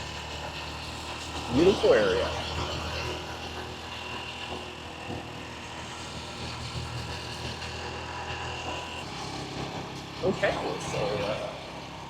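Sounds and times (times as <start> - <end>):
small motorbike engine running: 0.0 - 12.0.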